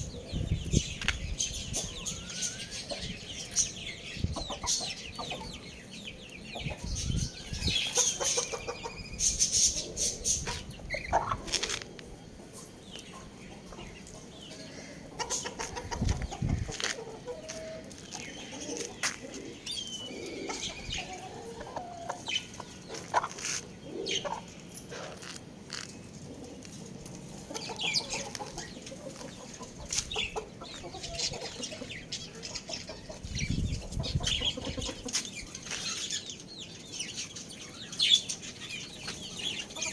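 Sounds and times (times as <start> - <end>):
young roosters clucking: 0.0 - 39.9.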